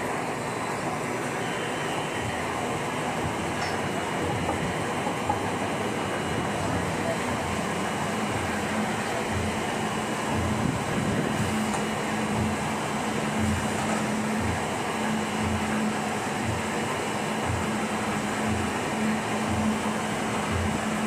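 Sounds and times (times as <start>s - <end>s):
machinery humming with low beat: 0.0s - 21.0s.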